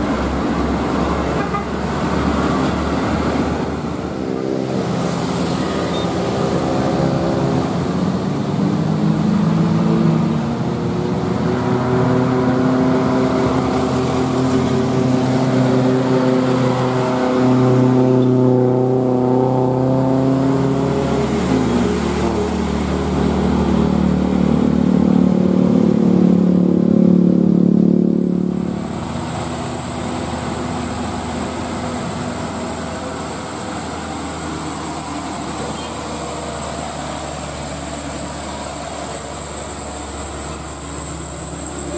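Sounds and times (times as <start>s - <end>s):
diesel trucks passing: 0.0s - 41.9s
high-pitched engine whine: 0.0s - 41.9s.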